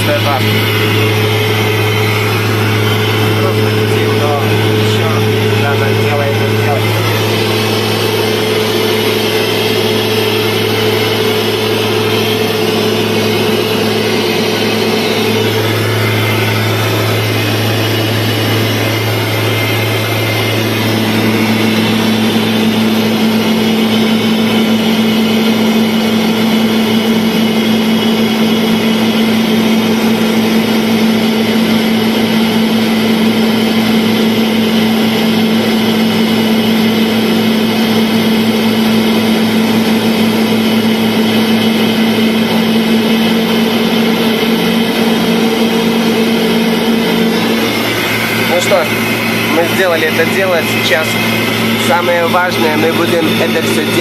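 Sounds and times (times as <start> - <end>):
airliner cabin drone: 0.0 - 54.0.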